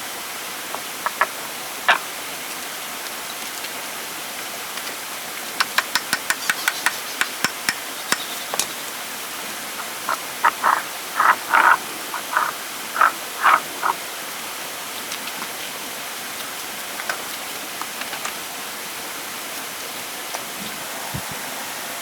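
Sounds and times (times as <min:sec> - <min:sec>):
running water: 0:00.0 - 0:22.0.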